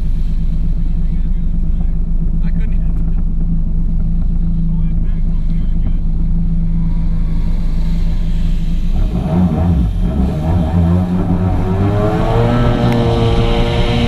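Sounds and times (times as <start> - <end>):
watercraft engines revving: 0.0 - 14.0.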